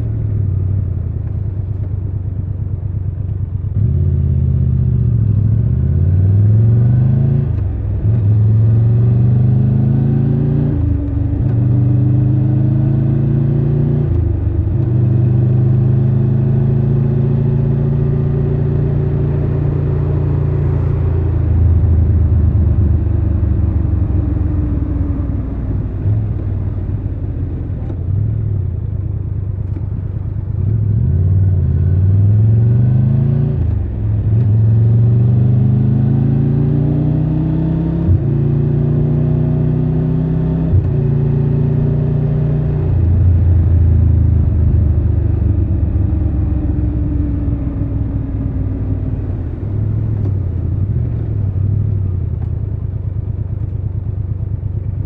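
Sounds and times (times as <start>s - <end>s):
motorcycle engine accelerating: 3.5s - 55.0s.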